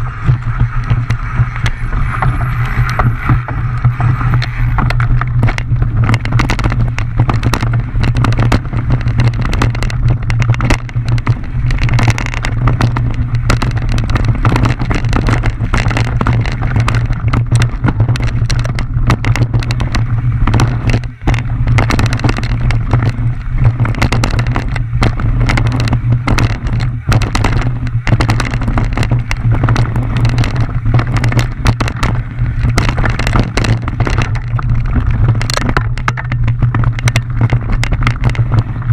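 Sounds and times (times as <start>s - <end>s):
bike rattles and knocks: 0.0s - 38.9s
wind rumble on microphone: 0.0s - 38.9s.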